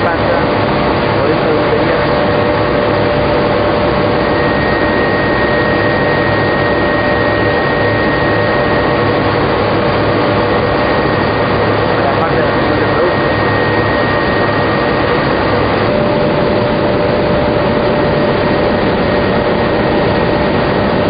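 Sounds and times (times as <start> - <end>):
industrial dryer machine noise: 0.0 - 21.0.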